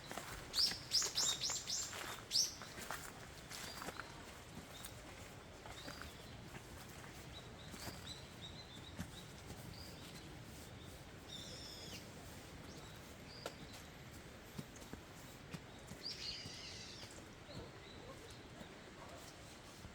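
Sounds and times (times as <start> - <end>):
small birds chirping: 0.0 - 19.5
faint outdoor hiss: 0.0 - 19.9.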